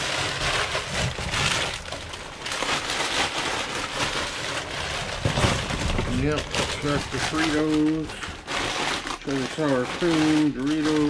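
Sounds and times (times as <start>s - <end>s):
chip bags crinkling: 0.0s - 11.0s.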